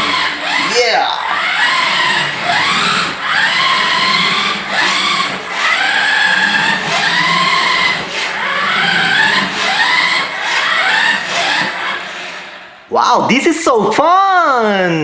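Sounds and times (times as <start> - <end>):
toy car electric motor whining: 0.0 - 12.9.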